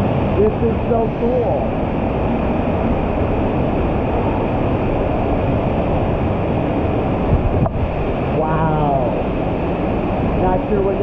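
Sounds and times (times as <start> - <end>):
waterfall echoing in cave: 0.0 - 11.0.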